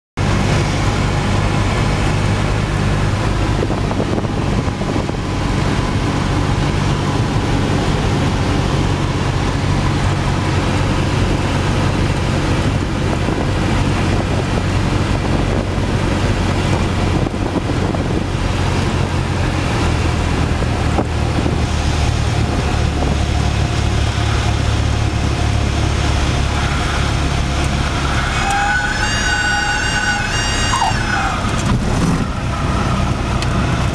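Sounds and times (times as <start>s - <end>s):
propeller plane engine droning: 0.2s - 33.9s
wind noise: 0.2s - 33.9s.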